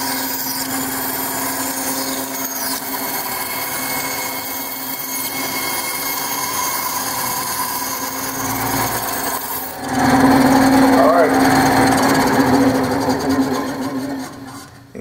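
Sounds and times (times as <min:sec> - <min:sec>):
bandsaw cutting wood: 0:00.0 - 0:15.0.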